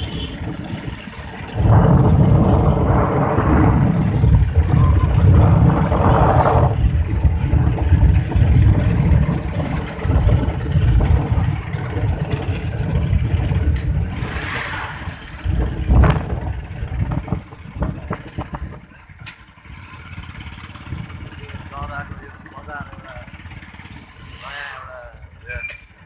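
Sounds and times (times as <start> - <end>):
wind rumble on microphone: 0.0 - 24.5
motorcycle engine running: 0.0 - 26.0.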